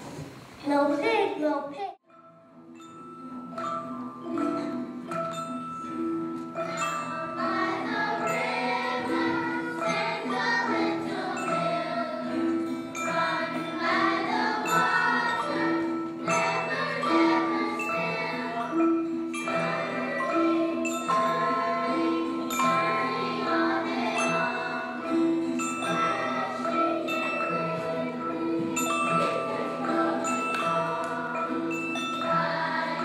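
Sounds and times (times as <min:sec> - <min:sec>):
mallet percussion melody: 0:02.1 - 0:33.0.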